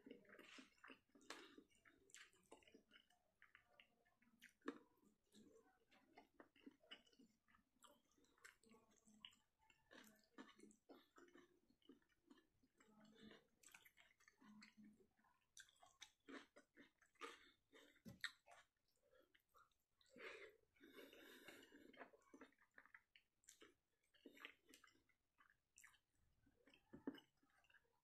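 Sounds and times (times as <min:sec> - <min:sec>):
chewing and mouth smacks: 0:00.0 - 0:28.0.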